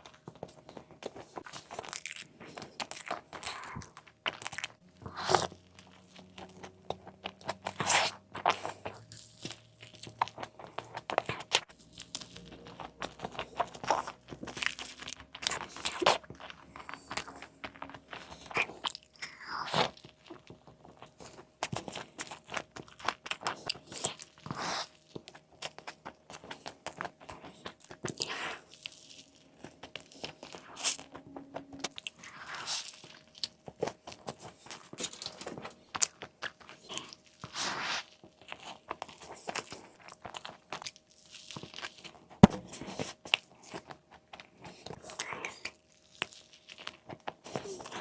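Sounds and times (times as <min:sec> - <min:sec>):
biting and chewing: 0:00.0 - 0:48.0.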